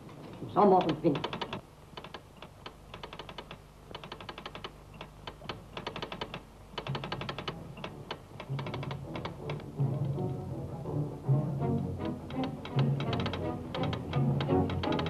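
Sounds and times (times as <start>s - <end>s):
faint low music tones: 0.0s - 15.0s
telegraph clicking morse code: 0.5s - 9.7s, 12.0s - 15.0s.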